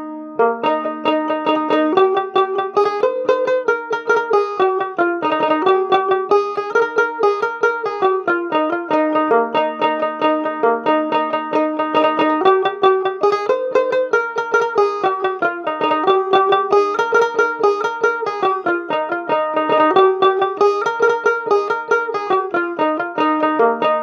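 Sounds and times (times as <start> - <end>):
plucked banjo-like strings: 0.0 - 24.0.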